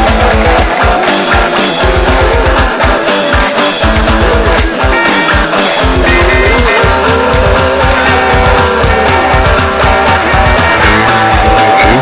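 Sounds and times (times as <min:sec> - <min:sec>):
fast drum beat: 0:00.0 - 0:12.0
guitar lead melody: 0:00.0 - 0:12.0
punk rock song: 0:00.0 - 0:12.0.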